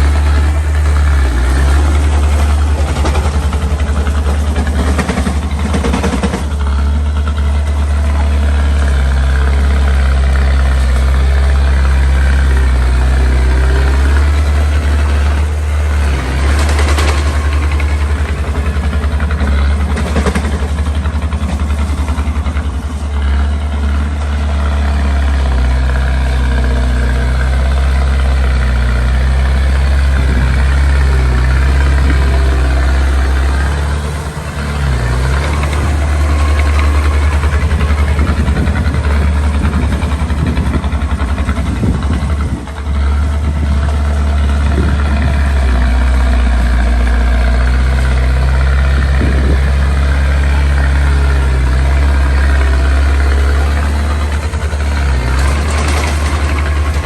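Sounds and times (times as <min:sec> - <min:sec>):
bulldozer diesel engine running: 0:00.0 - 0:57.0
rattling bursts: 0:00.0 - 0:57.0.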